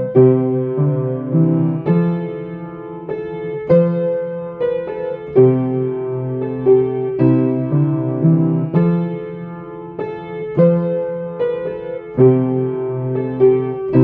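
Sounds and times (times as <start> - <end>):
solo piano playing a carol: 0.0 - 14.0.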